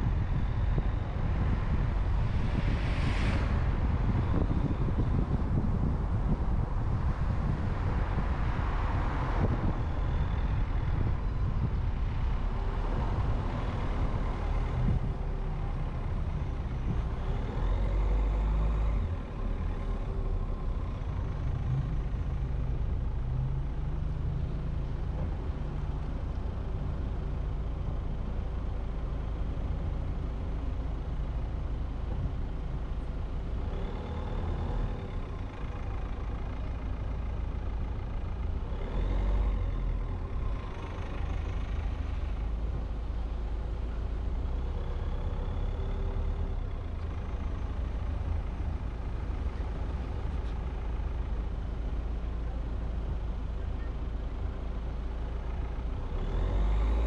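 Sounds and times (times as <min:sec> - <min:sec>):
car engine and road noise: 0:00.0 - 0:57.0
passing traffic: 0:00.0 - 0:57.0.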